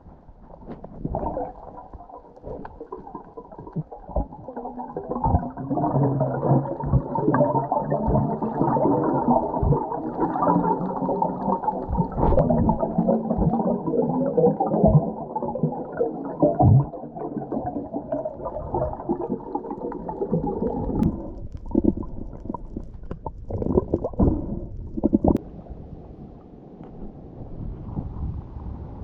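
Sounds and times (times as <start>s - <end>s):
muffled underwater rumbling and gurgling: 0.0s - 29.0s.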